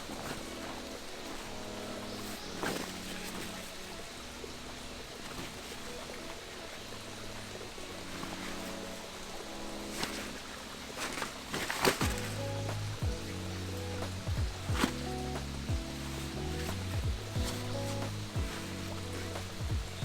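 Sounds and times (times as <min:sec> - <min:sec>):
soft background music: 0:00.0 - 0:20.0
steady hiss: 0:00.0 - 0:20.0.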